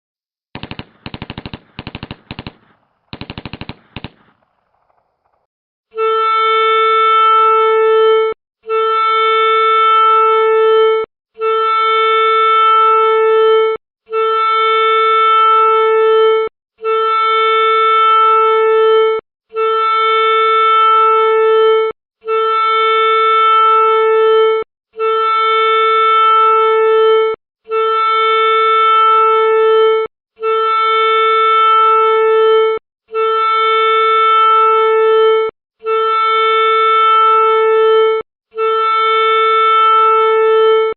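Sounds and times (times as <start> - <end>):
horn-like blown tone: 5.9 - 40.9.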